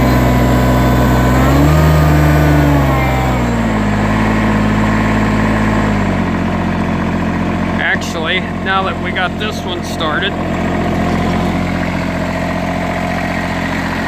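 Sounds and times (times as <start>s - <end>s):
diesel tractor engine revving: 0.0s - 14.0s.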